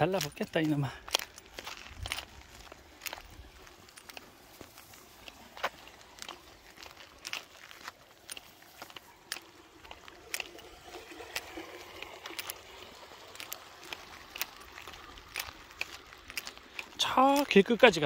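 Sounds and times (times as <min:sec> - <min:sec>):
faint trickle of water: 0:00.0 - 0:18.0
footsteps on concrete: 0:00.0 - 0:18.0
sharp clicks: 0:00.1 - 0:18.0.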